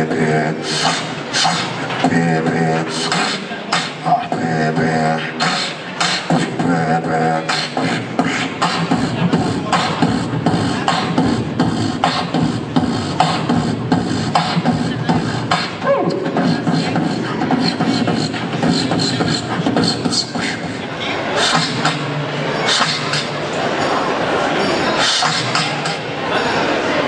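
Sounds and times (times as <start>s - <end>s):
beatboxing mouth percussion: 0.0s - 27.0s
held pitched vocal tones: 0.0s - 27.0s.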